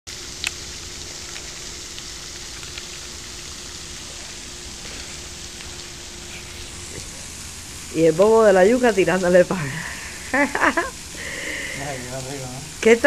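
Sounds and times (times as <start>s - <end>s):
faint hum: 0.1s - 13.0s
outdoor background hiss: 0.1s - 13.0s.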